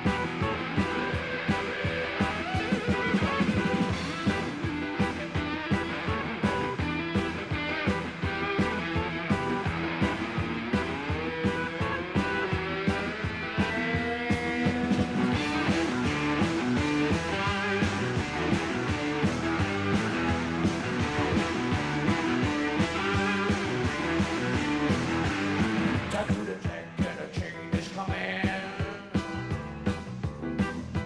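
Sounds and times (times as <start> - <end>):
electric guitars: 0.0 - 31.0
steady drum beat: 0.0 - 31.0.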